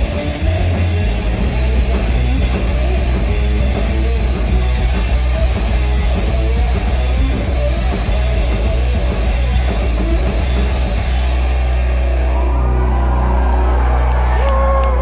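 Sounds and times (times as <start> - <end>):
distorted electric guitar: 0.0 - 15.0
rock drums: 0.0 - 15.0.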